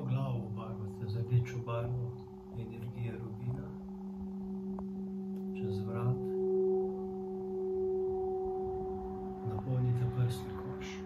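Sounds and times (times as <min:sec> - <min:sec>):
singing bowl ringing: 0:00.0 - 0:11.0.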